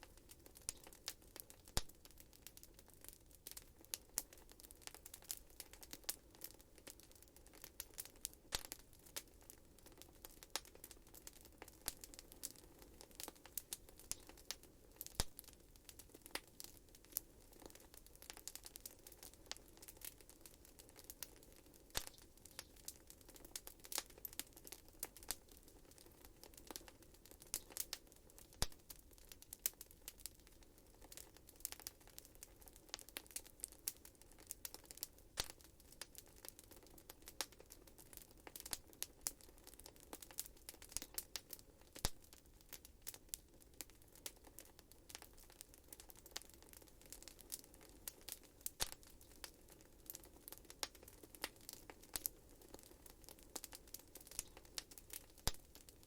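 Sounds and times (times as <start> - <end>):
low hiss of burning: 0.0 - 56.0
wood fire crackling and popping: 0.0 - 56.0.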